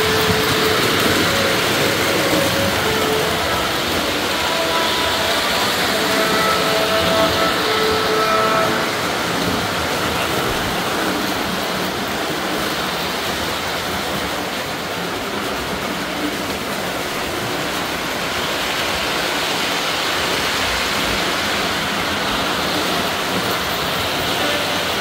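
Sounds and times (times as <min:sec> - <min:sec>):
model train rolling on track: 0:00.0 - 0:25.0.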